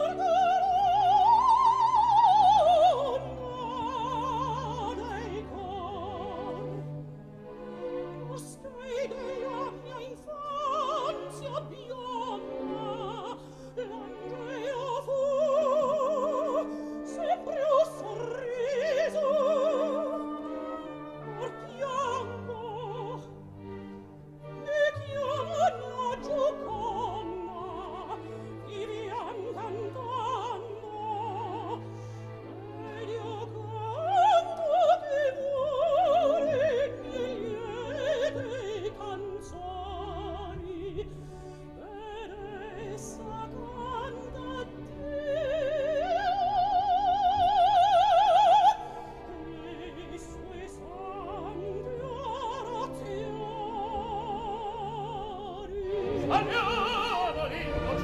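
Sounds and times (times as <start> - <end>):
soprano singing with vibrato: 0.0 - 7.2, 8.1 - 23.4, 24.5 - 58.0
orchestra playing: 0.0 - 58.0.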